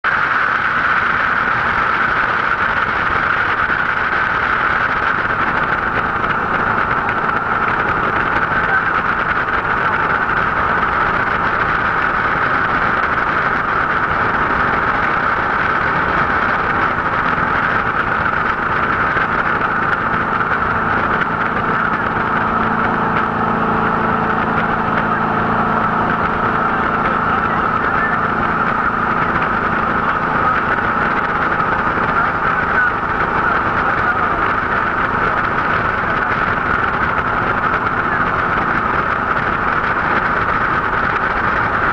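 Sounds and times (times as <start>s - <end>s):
jet boat engine droning: 0.0s - 41.9s.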